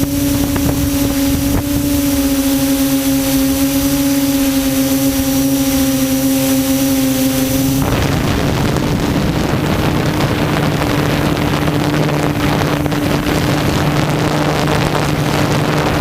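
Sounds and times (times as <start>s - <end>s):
quadcopter motors humming: 0.0s - 16.0s
wind buffeting microphone: 0.0s - 16.0s.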